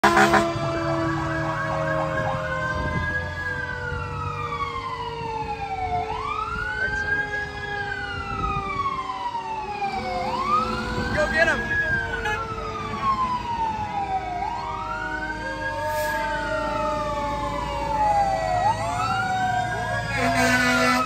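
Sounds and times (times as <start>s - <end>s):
fire truck siren: 0.0s - 21.0s.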